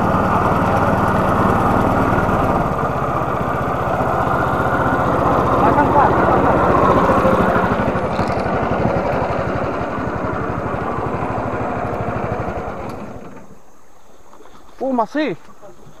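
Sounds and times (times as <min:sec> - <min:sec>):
water rushing along hull: 0:00.0 - 0:13.5
small boat engine running: 0:00.0 - 0:13.7.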